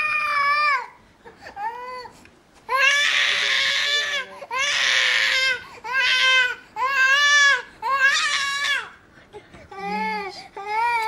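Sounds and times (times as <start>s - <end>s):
baby crying: 0.0s - 9.0s, 9.7s - 11.0s.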